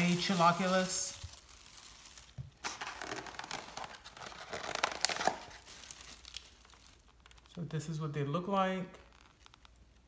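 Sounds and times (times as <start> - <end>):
plastic bag crinkling: 0.0 - 7.6, 8.9 - 10.0.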